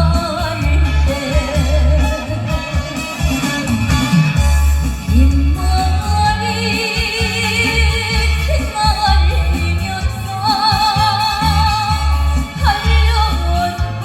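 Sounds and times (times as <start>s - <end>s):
backing track with bass beat: 0.0s - 14.0s
person singing with vibrato: 0.0s - 14.0s.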